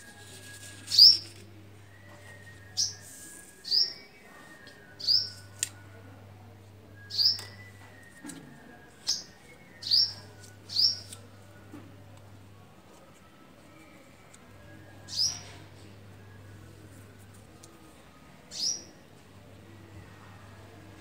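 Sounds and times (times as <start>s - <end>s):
faint low hum: 4.1s - 21.0s.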